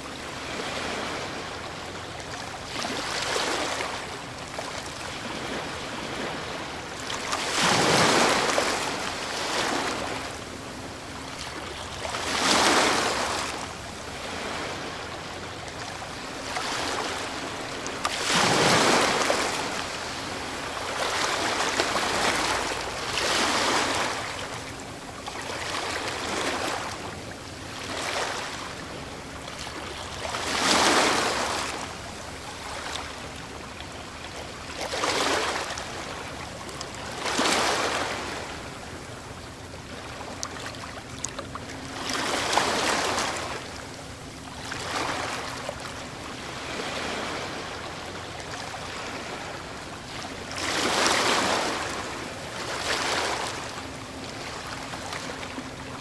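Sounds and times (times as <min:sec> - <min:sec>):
ocean waves breaking: 0:00.0 - 0:56.0
steady surf: 0:00.0 - 0:56.0.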